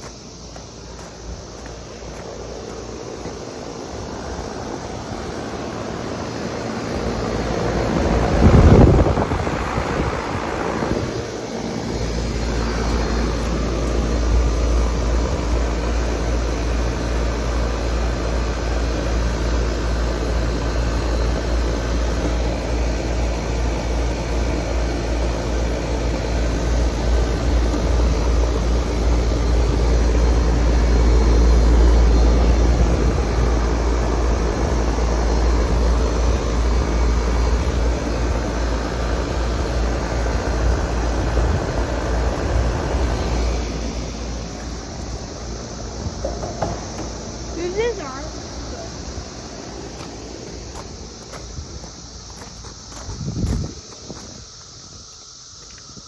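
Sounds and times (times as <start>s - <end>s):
low mechanical rumble: 0.0s - 53.8s.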